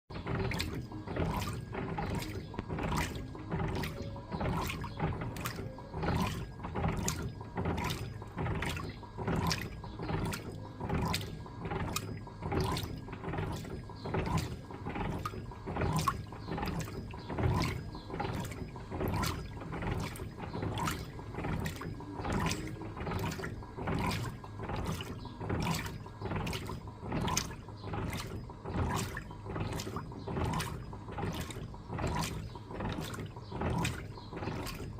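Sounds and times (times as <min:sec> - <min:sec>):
washing machine agitator sloshing water: 0:00.1 - 0:34.9.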